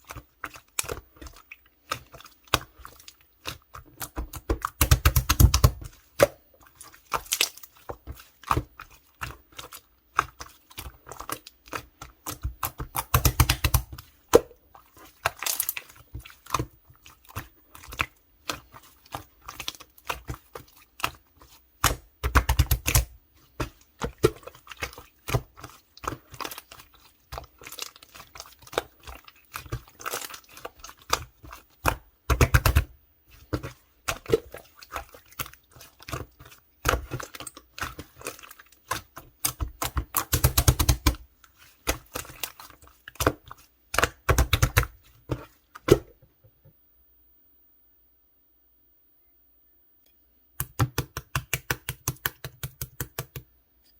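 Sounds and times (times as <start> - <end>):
slime squishing: 0.0 - 46.2, 50.6 - 53.5.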